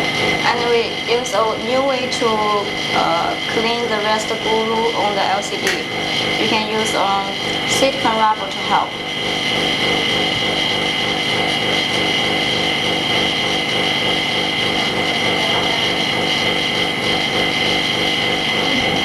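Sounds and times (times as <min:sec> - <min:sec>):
small machine high-pitched whine: 0:00.0 - 0:19.0.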